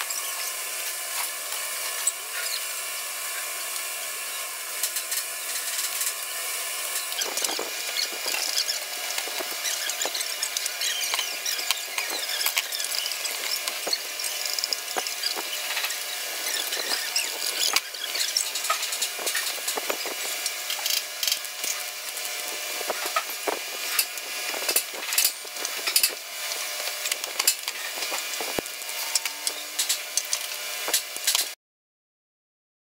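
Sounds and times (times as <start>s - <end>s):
welding hiss: 0.0s - 31.6s.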